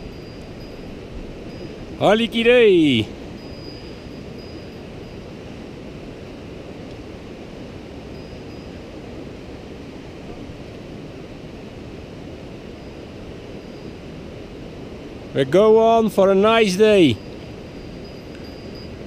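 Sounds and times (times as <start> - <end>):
mountain stream running: 0.0 - 18.6.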